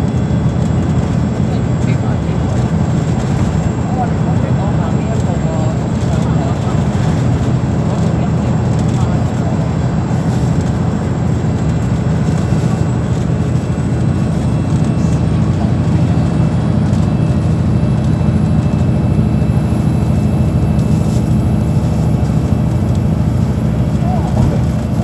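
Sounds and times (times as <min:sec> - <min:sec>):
vehicle rumbling in motion: 0:00.0 - 0:25.0.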